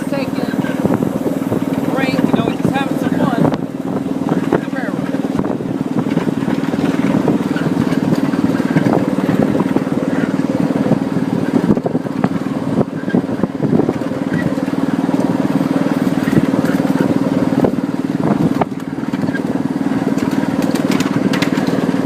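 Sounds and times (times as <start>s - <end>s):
small locomotive engine droning: 0.0s - 22.0s.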